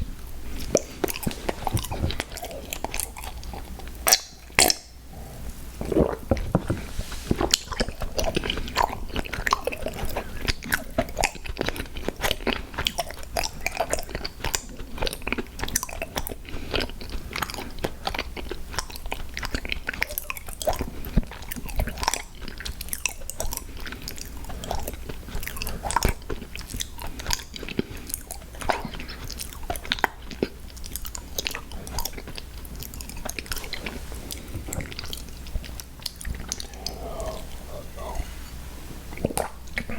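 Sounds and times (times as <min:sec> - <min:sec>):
person chewing sweets: 0:00.0 - 0:39.9.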